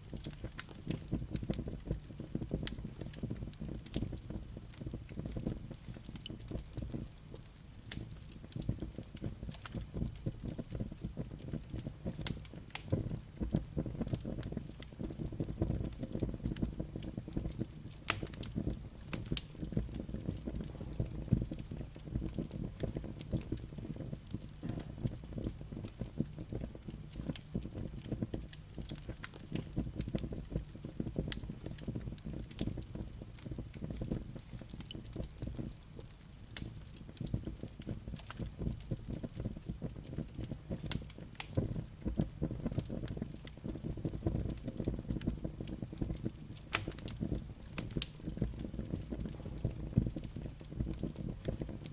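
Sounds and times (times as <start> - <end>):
fire rumbling: 0.0 - 51.9
logs popping and crackling: 0.0 - 51.9.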